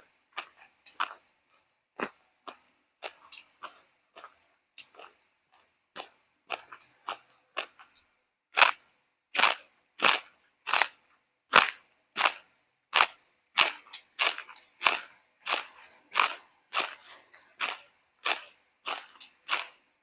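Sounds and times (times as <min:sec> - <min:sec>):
chewing crunchy food: 0:00.0 - 0:20.0.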